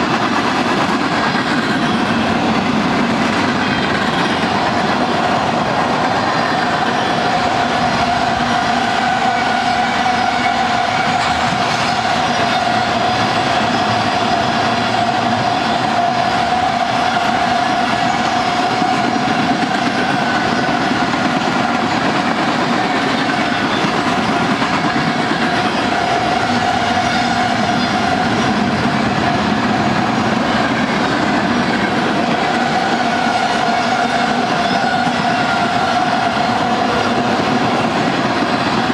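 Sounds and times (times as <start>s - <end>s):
train wheels rolling on rails: 0.0s - 38.9s.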